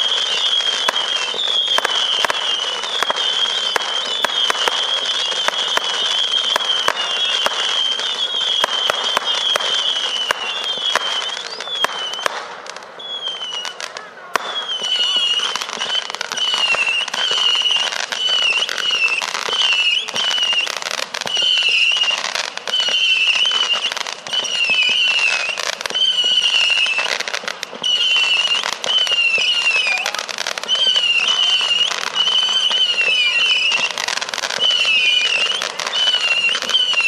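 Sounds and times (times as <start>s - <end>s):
firework missiles whistling: 0.0s - 37.0s
firework pops and crackles: 0.0s - 37.0s.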